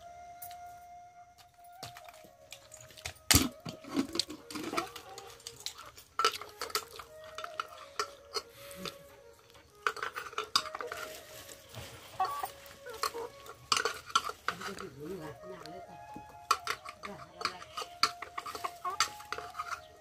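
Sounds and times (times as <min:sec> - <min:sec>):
metal pots and utensils clattering: 0:03.0 - 0:20.0.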